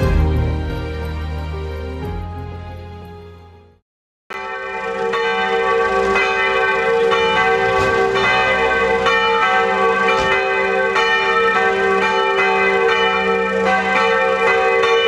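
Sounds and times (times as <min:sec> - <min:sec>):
church bells pealing: 0:00.0 - 0:02.9, 0:04.3 - 0:15.0.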